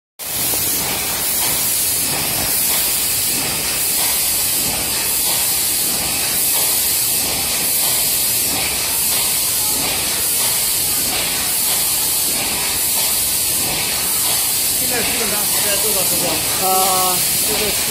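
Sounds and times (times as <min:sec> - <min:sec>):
labeling machine hissing: 0:00.2 - 0:17.9.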